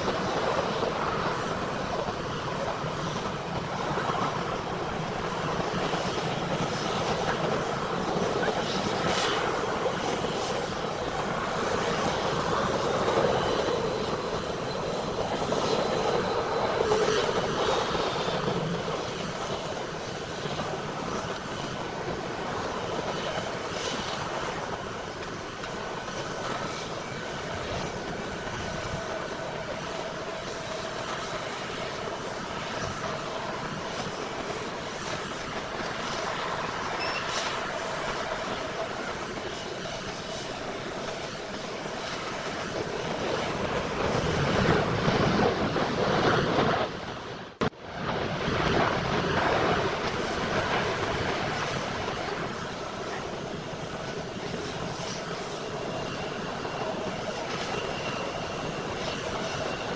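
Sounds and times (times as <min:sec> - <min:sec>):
jet engine rush with high whine: 0:00.0 - 0:59.9.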